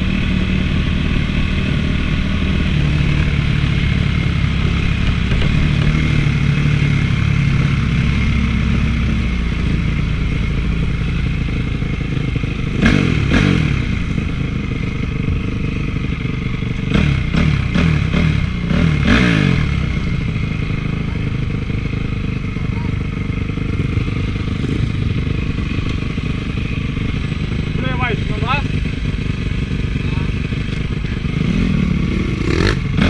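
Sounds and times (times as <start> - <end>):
motocross engine running: 0.0 - 33.0.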